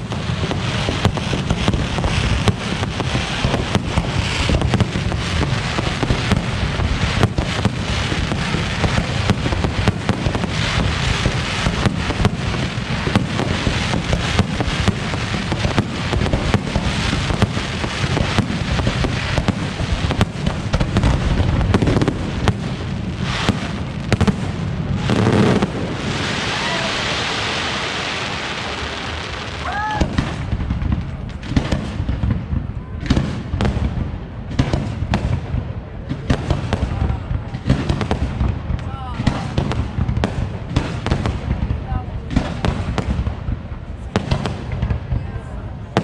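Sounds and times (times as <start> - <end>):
deep fireworks booms: 0.0 - 46.0
fireworks bangs and crackling: 0.0 - 46.0.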